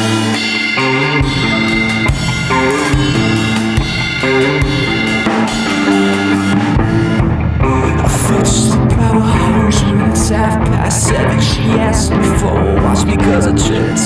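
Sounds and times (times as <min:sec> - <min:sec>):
bass guitar: 0:00.0 - 0:14.0
drum kit beat: 0:00.0 - 0:14.0
electric guitar: 0:00.0 - 0:14.0.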